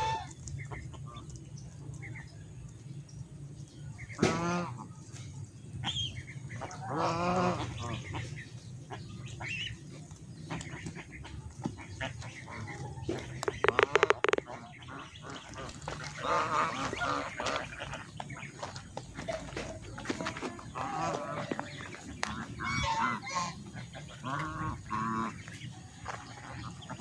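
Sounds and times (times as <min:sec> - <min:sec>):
geese honking: 0:00.0 - 0:01.4, 0:03.9 - 0:05.0, 0:05.8 - 0:27.0.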